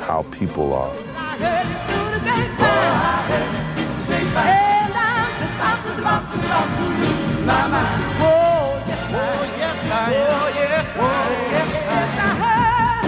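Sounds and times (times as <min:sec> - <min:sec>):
person singing with vibrato: 0:00.9 - 0:13.0
soul band playing: 0:01.0 - 0:13.0.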